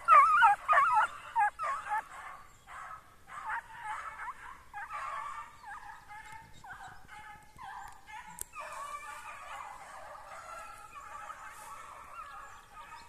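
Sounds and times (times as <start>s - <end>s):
dogs yelping: 0.0s - 13.0s.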